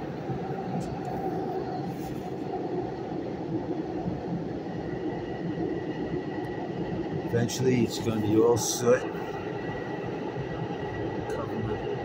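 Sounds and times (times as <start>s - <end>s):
train rumbling in tunnel: 0.0s - 12.0s.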